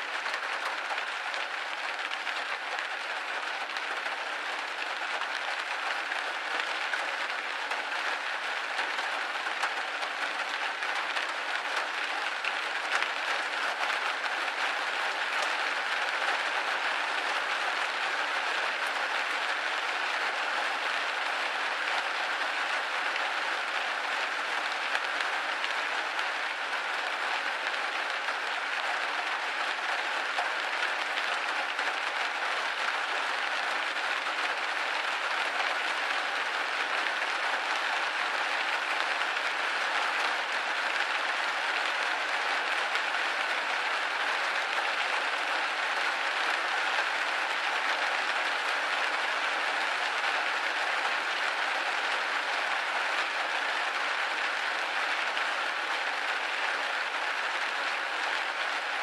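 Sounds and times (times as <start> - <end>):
rain pattering on window glass: 0.0 - 59.0.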